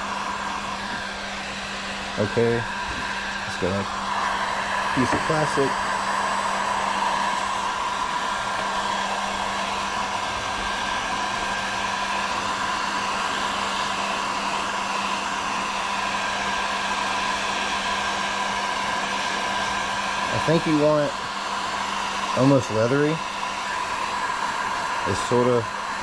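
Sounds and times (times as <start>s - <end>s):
heat gun blower running: 0.0s - 26.0s.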